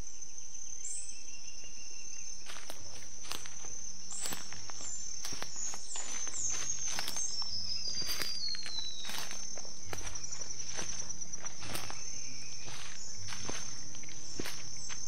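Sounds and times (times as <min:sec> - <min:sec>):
high-pitched insect drone: 0:00.0 - 0:15.0
footsteps on forest floor: 0:02.3 - 0:15.0.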